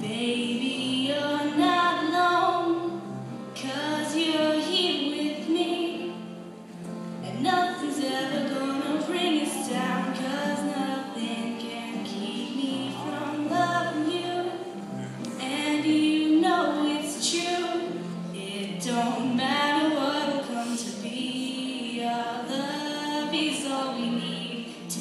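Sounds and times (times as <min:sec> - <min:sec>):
girl singing: 0:00.0 - 0:06.2, 0:07.2 - 0:25.0.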